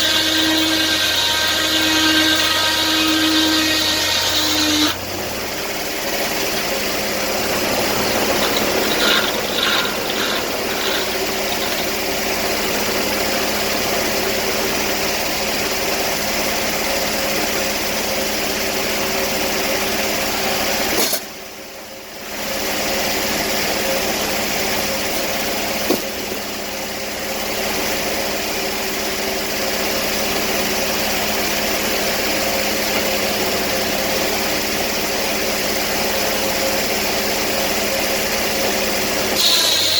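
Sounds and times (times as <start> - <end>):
sawmill engine running: 0.0 - 21.0, 22.4 - 39.9.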